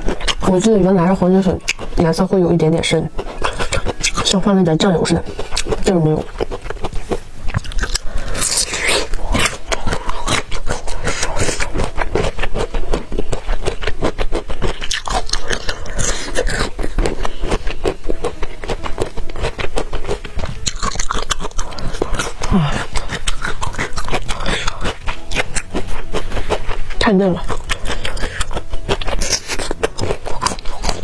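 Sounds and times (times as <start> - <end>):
crisp wet chewing crunches: 0.0 - 0.6, 1.6 - 2.0, 2.8 - 31.0.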